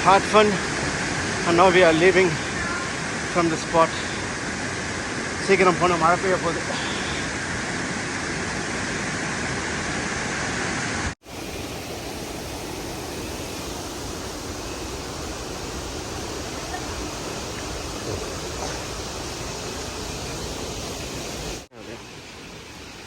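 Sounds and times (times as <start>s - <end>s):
rush of flowing water: 0.0s - 23.0s.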